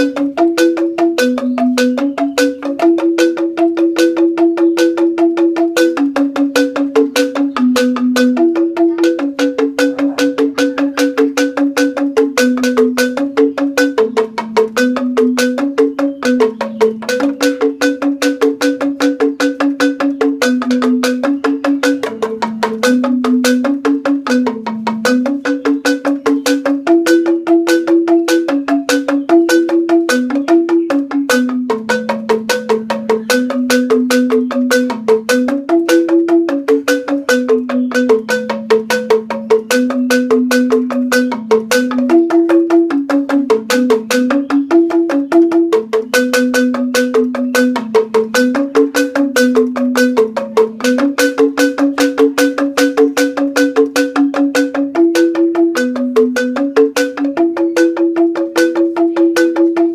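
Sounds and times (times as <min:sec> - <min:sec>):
bamboo xylophone playing: 0:00.0 - 0:59.9.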